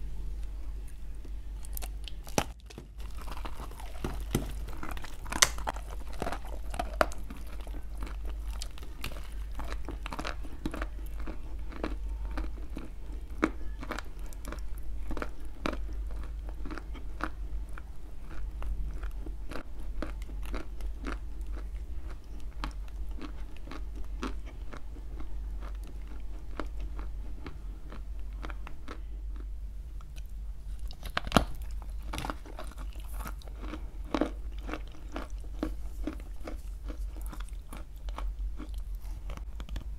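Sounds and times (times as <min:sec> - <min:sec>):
person chewing clay: 0:00.4 - 0:39.9.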